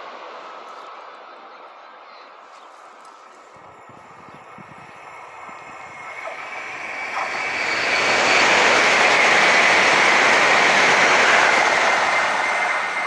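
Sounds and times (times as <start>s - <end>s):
electric train passing at speed: 0.0s - 13.0s.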